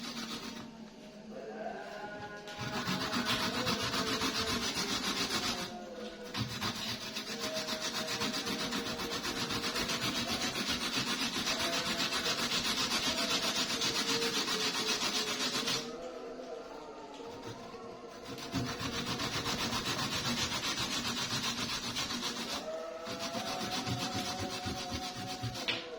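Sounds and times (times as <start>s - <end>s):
ginger scraped on a hand grater: 0.0s - 0.7s, 2.5s - 16.2s, 17.3s - 25.9s.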